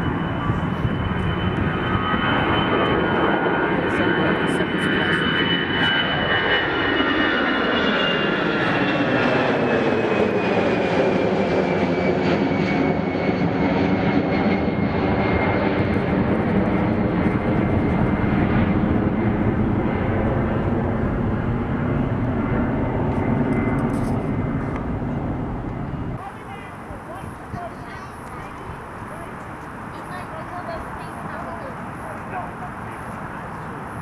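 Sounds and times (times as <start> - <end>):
airliner engines passing: 0.0 - 34.0
high engine whine: 0.0 - 34.0.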